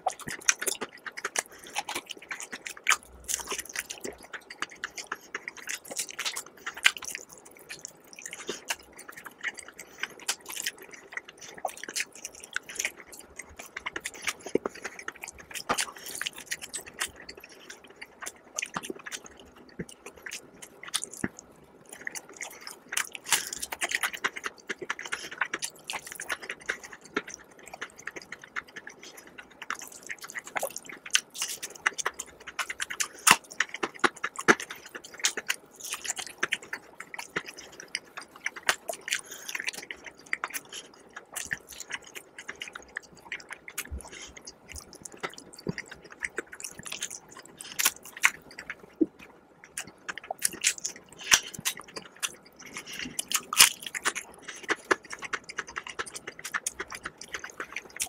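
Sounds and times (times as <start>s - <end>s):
crunching fried chicken: 0.0s - 58.0s
wet chewing: 0.0s - 58.0s.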